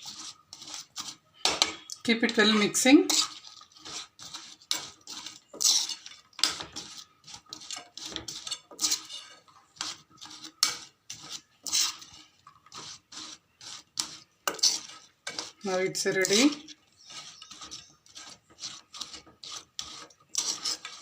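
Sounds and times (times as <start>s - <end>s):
spoon clinking and scraping pan: 0.0s - 21.0s.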